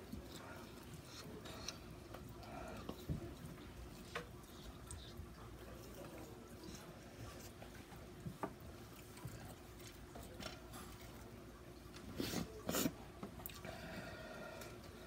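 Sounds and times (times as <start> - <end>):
person chewing food: 0.0 - 13.7
faint steady hum: 0.0 - 15.0.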